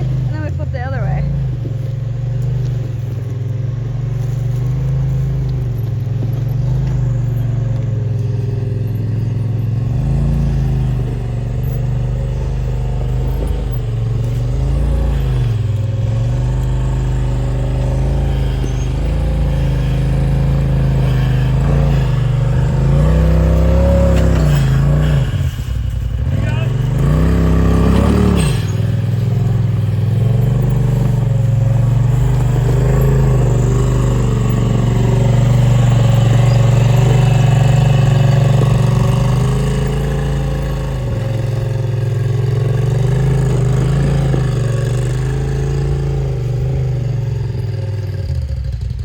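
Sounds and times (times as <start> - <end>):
utility vehicle engine running: 0.0 - 49.0.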